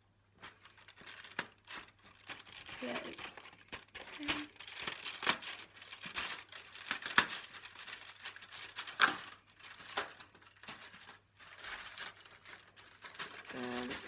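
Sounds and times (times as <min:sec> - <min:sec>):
cardboard and plastic crinkling: 0:00.4 - 0:14.0.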